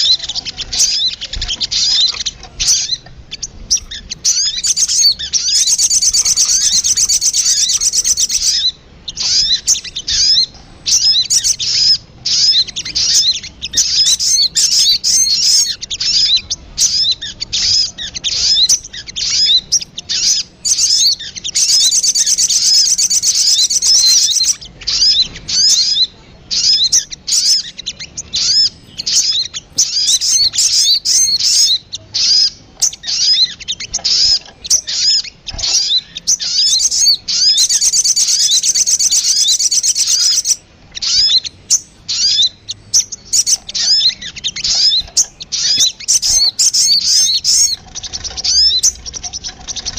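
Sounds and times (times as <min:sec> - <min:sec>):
bird chirps and trills: 0:00.0 - 0:49.9.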